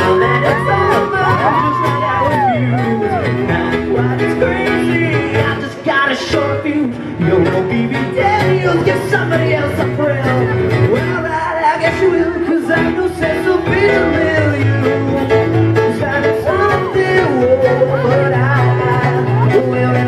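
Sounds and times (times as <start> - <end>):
guitar accompaniment: 0.0 - 20.0
man singing into microphone: 0.0 - 20.0.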